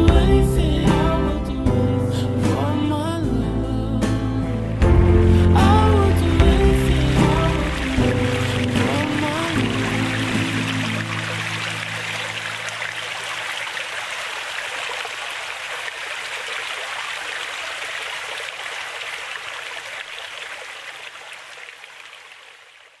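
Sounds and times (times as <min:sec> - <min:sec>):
stream water running: 0:04.1 - 0:23.0.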